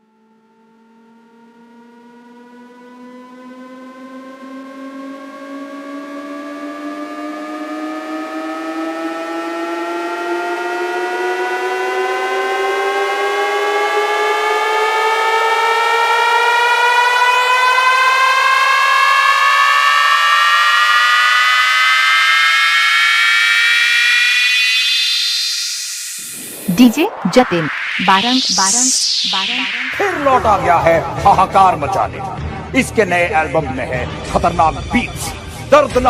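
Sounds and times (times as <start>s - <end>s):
synth riser sliding upward: 0.1s - 32.7s.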